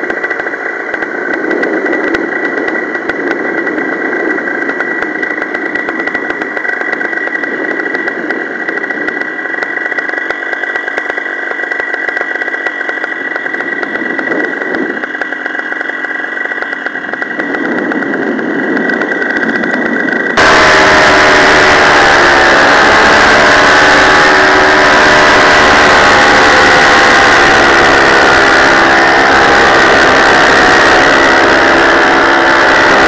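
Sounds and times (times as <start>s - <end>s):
paramotor engine and propeller: 0.0s - 33.0s.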